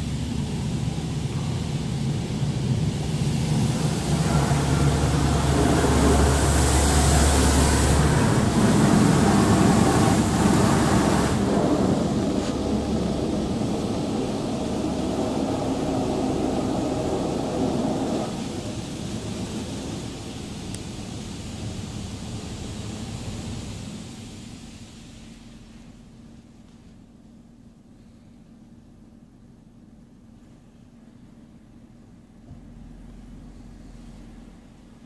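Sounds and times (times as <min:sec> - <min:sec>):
low rumble: 0:00.0 - 0:26.5, 0:32.4 - 0:35.0
car wash water jets spraying: 0:00.0 - 0:35.0.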